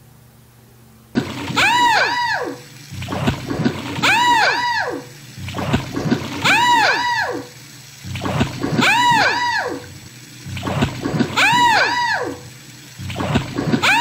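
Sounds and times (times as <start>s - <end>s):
low motor and gears whir: 1.2s - 14.0s
watery bloop sound effect: 1.2s - 14.0s.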